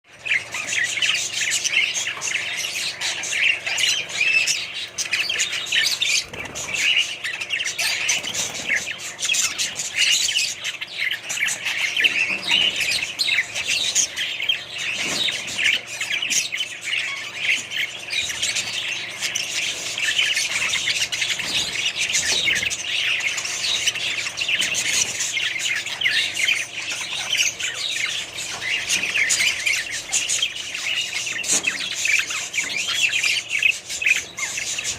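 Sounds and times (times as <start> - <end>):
small birds chirping and squawking: 0.0 - 34.9.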